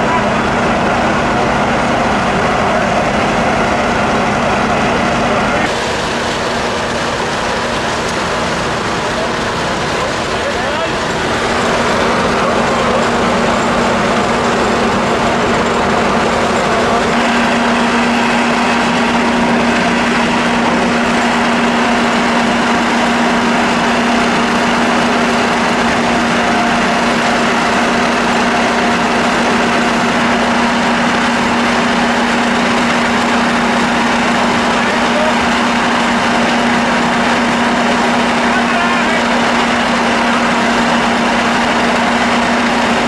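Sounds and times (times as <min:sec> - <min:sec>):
engine droning steadily: 0:00.0 - 0:43.0.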